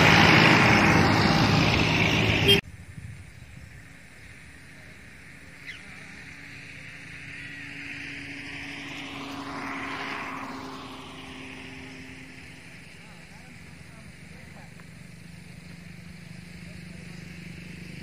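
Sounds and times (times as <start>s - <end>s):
propeller aircraft passing: 0.0s - 3.0s, 3.6s - 18.0s.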